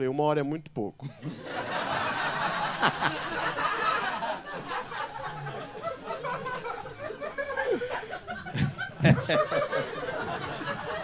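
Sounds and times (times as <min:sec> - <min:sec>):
studio audience laughing: 0:01.0 - 0:11.0.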